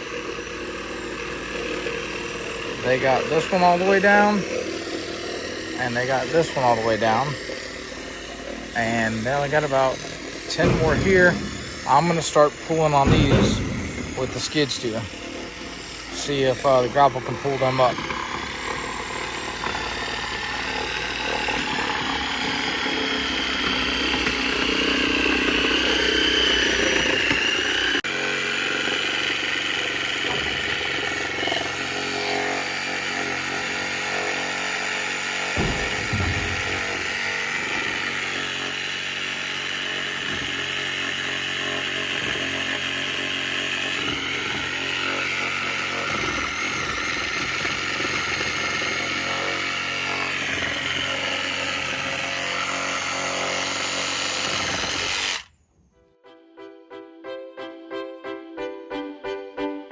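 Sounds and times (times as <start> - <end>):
skid steer engine running: 0.0 - 55.5.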